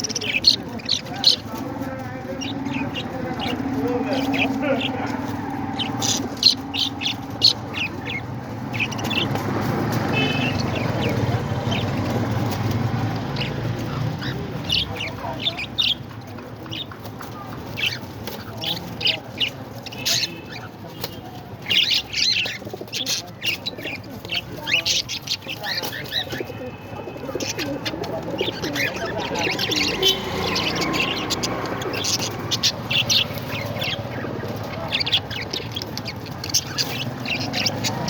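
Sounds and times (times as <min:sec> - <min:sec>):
parrots chirping: 0:00.0 - 0:20.7, 0:21.6 - 0:38.0.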